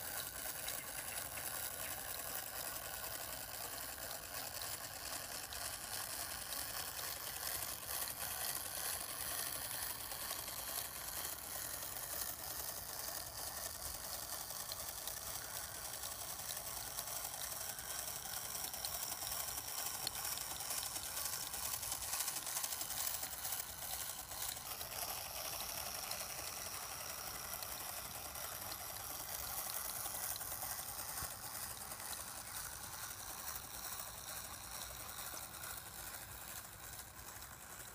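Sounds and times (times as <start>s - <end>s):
clockwork gears whirring and ticking: 0.0s - 37.9s.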